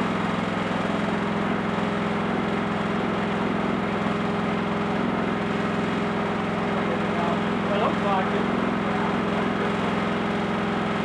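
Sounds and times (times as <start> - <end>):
sawmill engine running steadily: 0.0 - 11.0.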